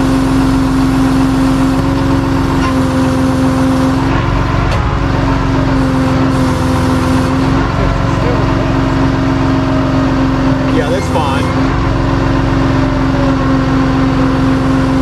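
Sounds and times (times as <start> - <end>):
droning whine: 0.0 - 15.0
tow truck engine running: 0.0 - 15.0.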